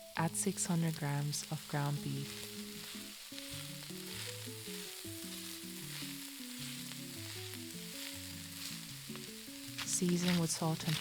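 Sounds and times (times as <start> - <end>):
meat sizzling in a pot: 0.0 - 11.0
soft background music: 0.0 - 11.0.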